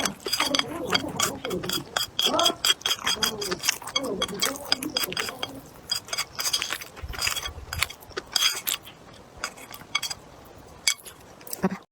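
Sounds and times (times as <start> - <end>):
light clinks: 0.0 - 10.2
crunchy eating sounds: 0.0 - 11.8.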